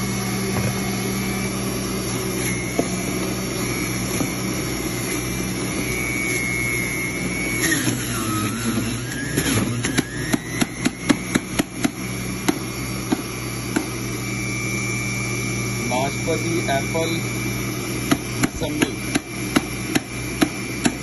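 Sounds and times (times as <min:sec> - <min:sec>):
juicer motor humming and whining: 0:00.0 - 0:21.0.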